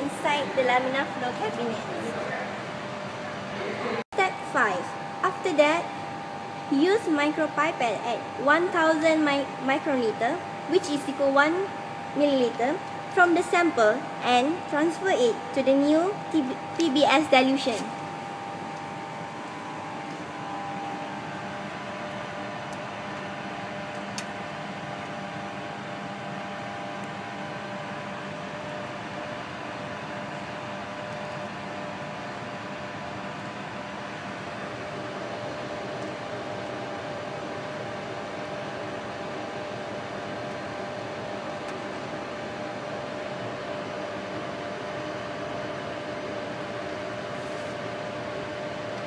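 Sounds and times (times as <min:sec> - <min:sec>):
blower fan humming: 0:00.0 - 0:49.0.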